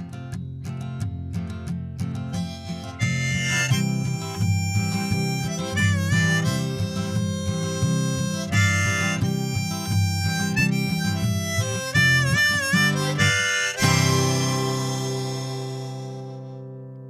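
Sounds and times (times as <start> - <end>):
strummed acoustic guitar: 0.0 - 17.0
harmonica melody: 2.3 - 17.0.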